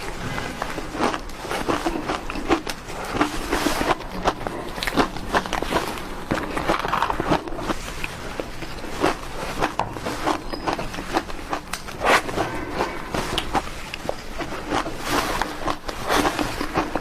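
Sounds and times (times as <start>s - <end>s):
chewing crushed ice: 0.0s - 17.0s.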